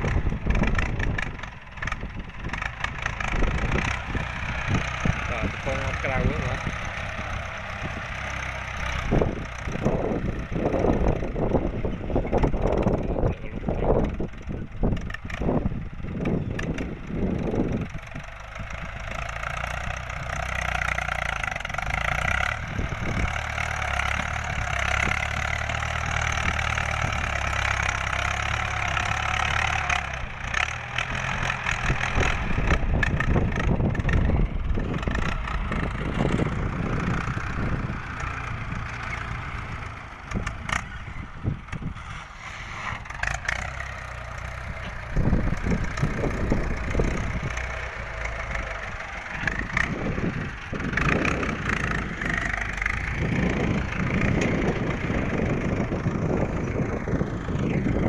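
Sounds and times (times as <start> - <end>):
engine knocks and clatter: 0.0 - 58.0
tractor diesel engine running: 0.0 - 58.0.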